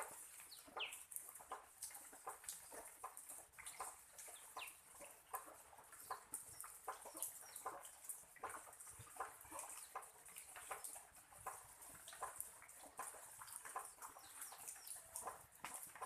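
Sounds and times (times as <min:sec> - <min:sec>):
faint rain dripping and pattering: 0:00.0 - 0:16.0.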